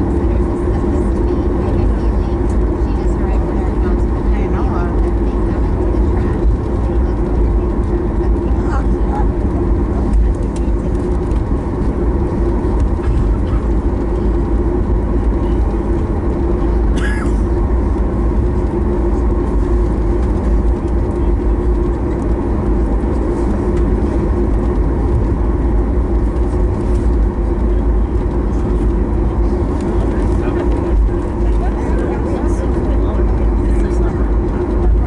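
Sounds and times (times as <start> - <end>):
jet engines humming: 0.0 - 35.0
wheels rumbling on taxiway: 0.0 - 35.0.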